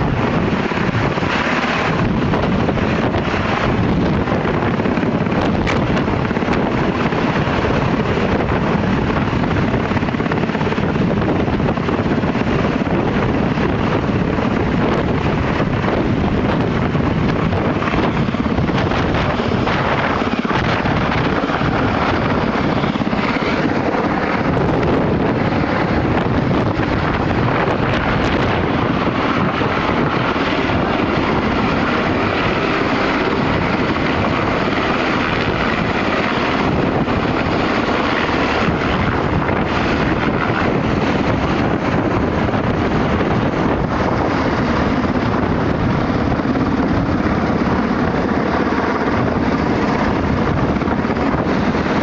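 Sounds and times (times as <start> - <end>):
helicopter flying low overhead: 0.0 - 52.0
rotor downwash buffeting microphone: 0.0 - 52.0.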